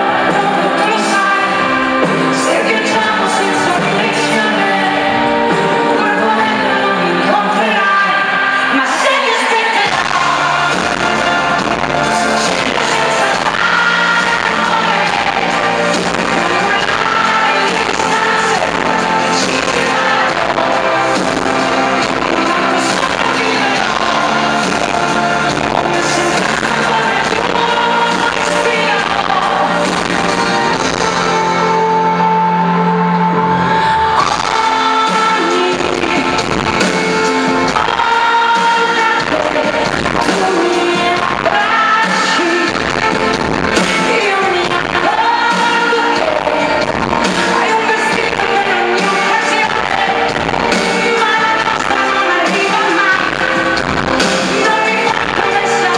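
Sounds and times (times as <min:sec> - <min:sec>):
live pop song with band: 0:00.0 - 0:55.9.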